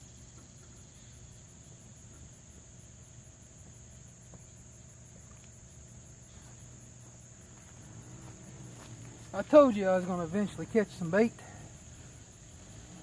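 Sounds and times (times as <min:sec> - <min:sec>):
insects trilling: 0:00.0 - 0:13.0
pulsing insect trill: 0:00.0 - 0:13.0.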